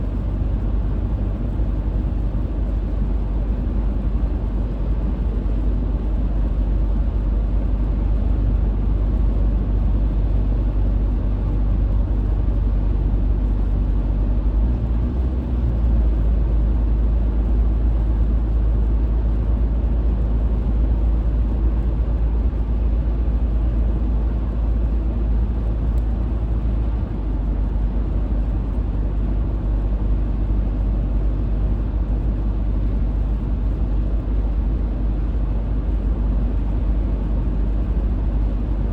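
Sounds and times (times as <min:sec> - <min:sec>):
car driving at highway speed: 0:00.0 - 0:38.9.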